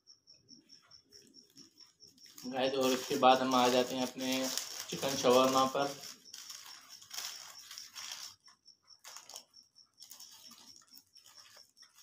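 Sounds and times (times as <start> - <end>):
paper wrapper crinkling and tearing: 1.2 - 8.4, 9.0 - 12.0.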